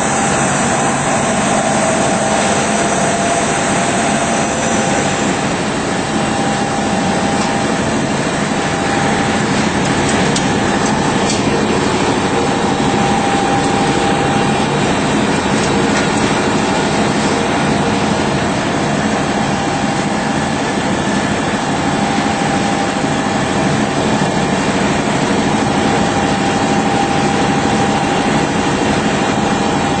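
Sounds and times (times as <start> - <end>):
deburring machine running: 0.0 - 30.0.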